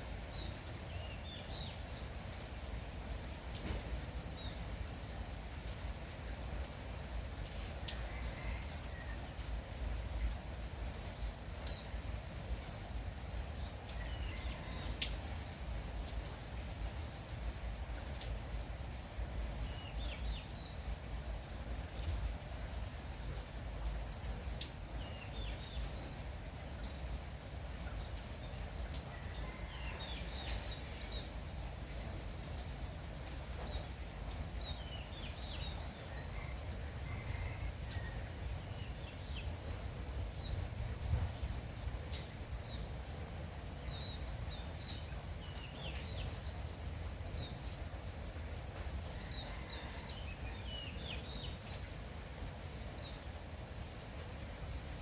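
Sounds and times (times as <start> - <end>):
light rain rumble: 0.0 - 55.0
drip-like ticks: 0.1 - 55.0.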